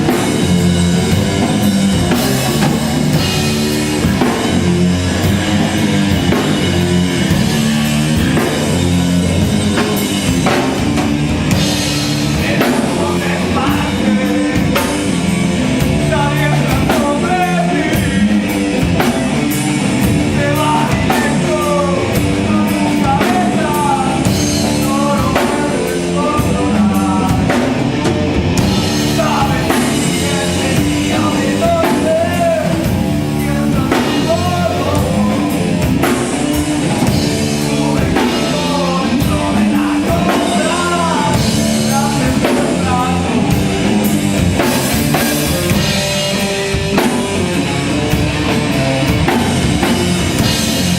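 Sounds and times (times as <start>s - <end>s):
heavy rock band playing: 0.0s - 50.9s.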